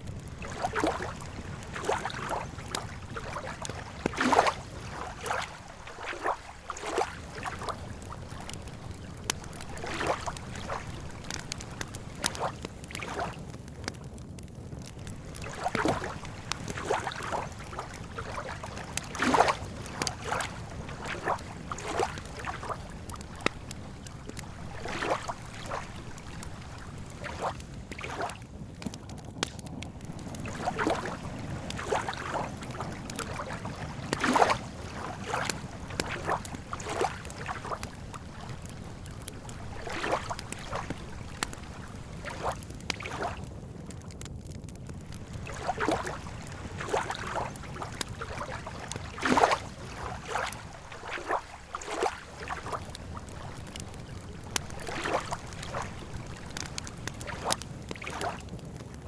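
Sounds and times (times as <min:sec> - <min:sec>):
lake water lapping and splashing: 0:00.0 - 0:44.2, 0:44.9 - 0:59.0
campfire crackling: 0:00.0 - 0:59.0.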